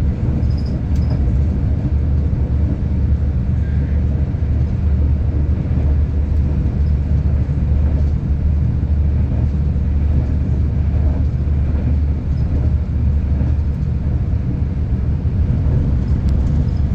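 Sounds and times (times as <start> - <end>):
train rumbling inside carriage: 0.0 - 16.9.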